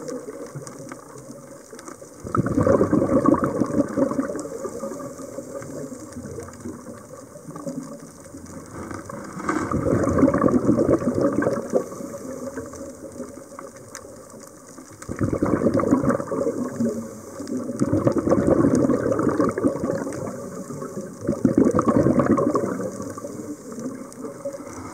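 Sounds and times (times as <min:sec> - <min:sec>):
exhaled air bubbling underwater: 0:00.0 - 0:24.9.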